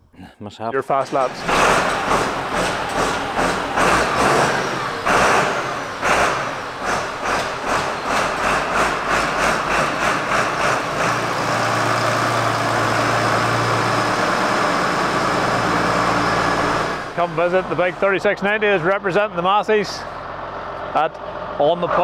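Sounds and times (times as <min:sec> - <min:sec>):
tractor diesel engine running: 0:00.9 - 0:22.0.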